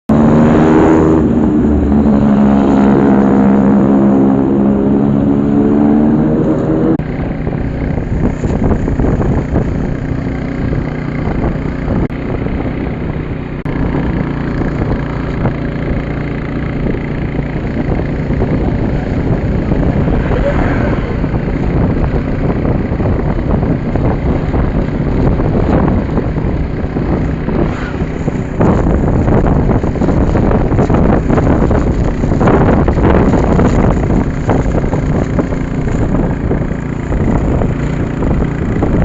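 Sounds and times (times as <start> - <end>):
vehicle engine running: 0.0 - 39.0.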